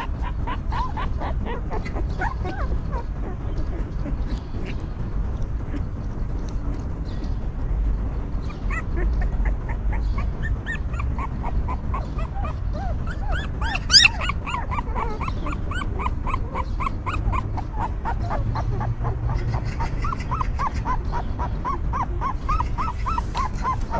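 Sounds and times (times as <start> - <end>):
puppies whimpering and yelping: 0.0 - 7.1, 8.2 - 23.9
low background rumble: 0.0 - 23.9.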